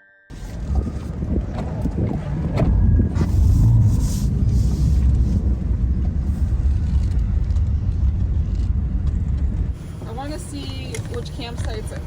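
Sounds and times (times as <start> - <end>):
van engine and road rumble: 0.3 - 12.0.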